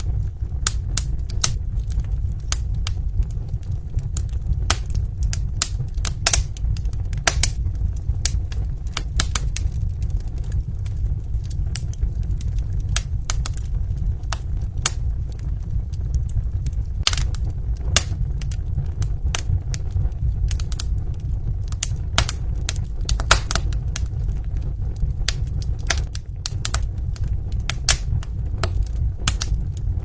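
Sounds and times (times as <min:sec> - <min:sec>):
fire low rumble: 0:00.0 - 0:30.0
wood fire crackling: 0:00.0 - 0:30.0.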